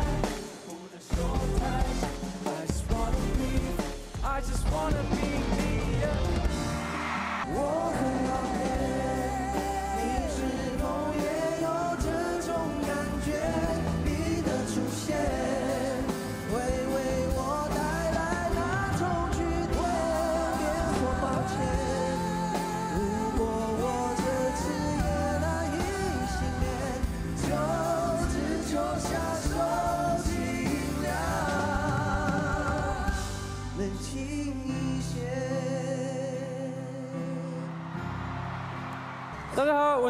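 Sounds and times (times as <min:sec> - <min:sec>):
men singing pop ballad: 0:00.0 - 0:37.8
grand piano: 0:01.2 - 0:40.0.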